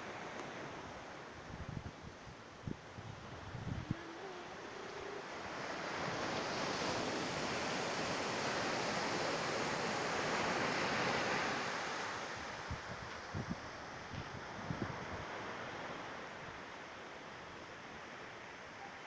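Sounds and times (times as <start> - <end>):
ocean wave rushing: 0.0 - 1.5, 2.9 - 16.8.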